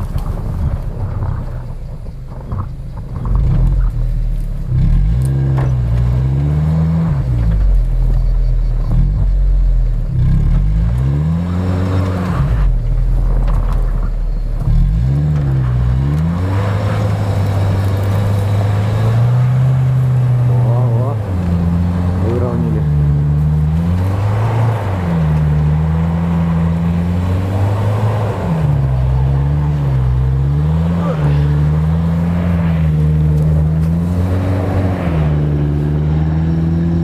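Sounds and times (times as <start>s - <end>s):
engine revving: 3.2s - 37.0s.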